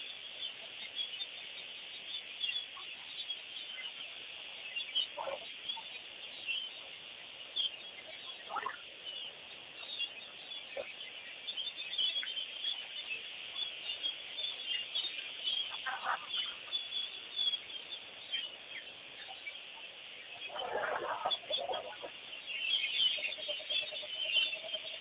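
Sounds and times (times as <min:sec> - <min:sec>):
wild birds chirping: 0:00.0 - 0:25.0.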